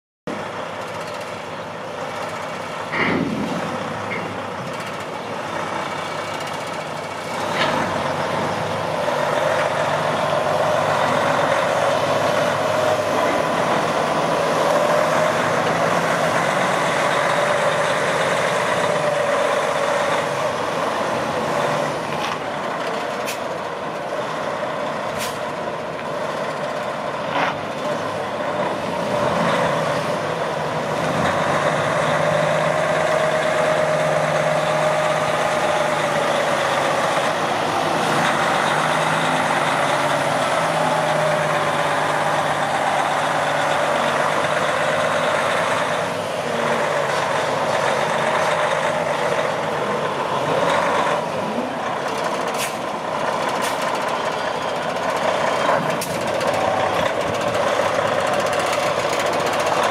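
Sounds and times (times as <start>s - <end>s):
diesel truck engine pulling away: 0.3s - 59.9s.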